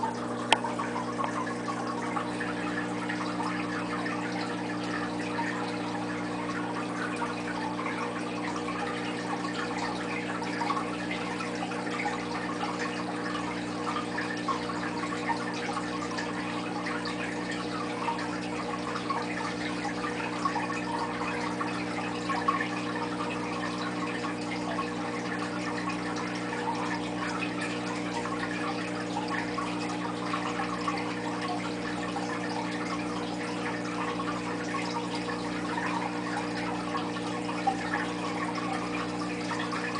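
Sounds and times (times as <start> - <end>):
aquarium pump humming: 0.0 - 39.9
trickling bubbling water: 0.0 - 39.9
water drips: 0.0 - 39.9.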